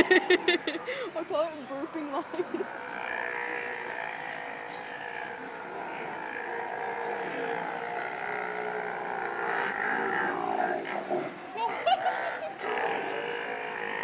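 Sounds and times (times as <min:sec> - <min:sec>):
sea lion growling burp: 0:01.8 - 0:14.0.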